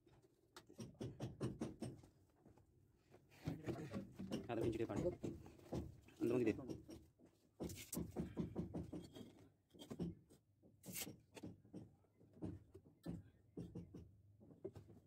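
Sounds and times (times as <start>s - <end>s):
knocking and rubbing of plastic pipes: 0.2s - 15.0s.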